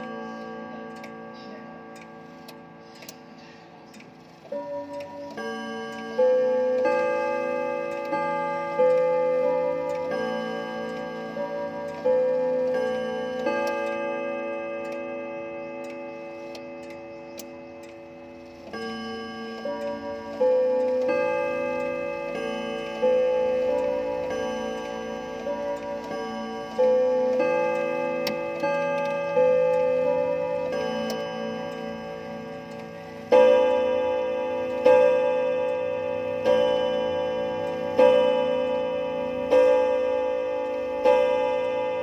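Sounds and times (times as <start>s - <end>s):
grandfather clock chiming: 0.0s - 42.0s.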